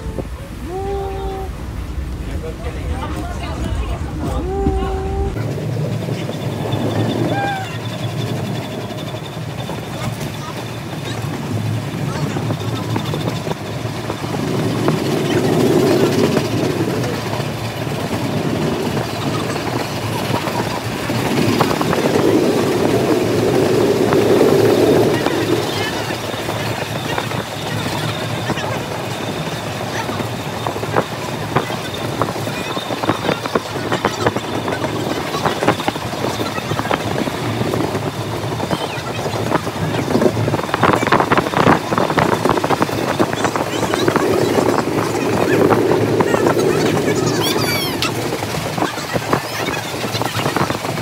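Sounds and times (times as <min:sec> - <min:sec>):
steam train rumbling on track: 0:00.0 - 0:51.0.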